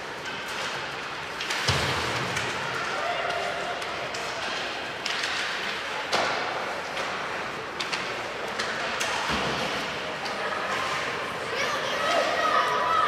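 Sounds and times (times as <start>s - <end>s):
hockey sticks and puck knocks: 0.1s - 11.1s
murmur of spectators: 2.4s - 13.0s.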